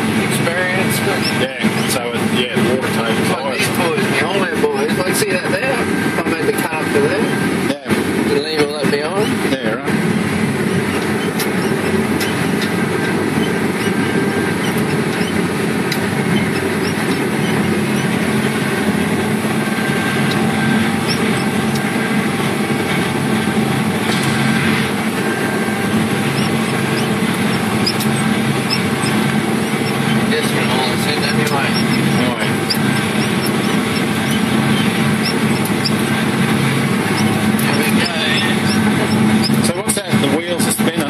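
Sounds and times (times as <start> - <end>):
harvester engine drone: 0.0 - 41.0.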